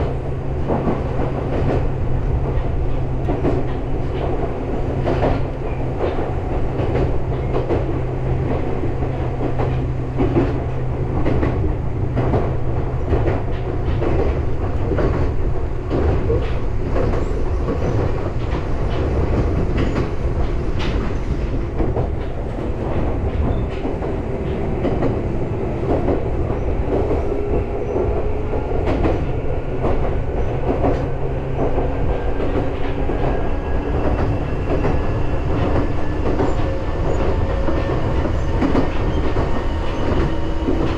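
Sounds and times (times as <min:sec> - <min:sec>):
electric train rumble: 0:00.0 - 0:40.9.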